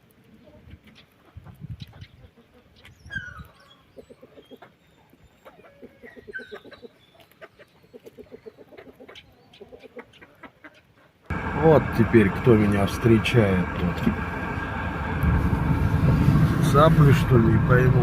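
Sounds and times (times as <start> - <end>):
chickens clucking: 0.3 - 15.2.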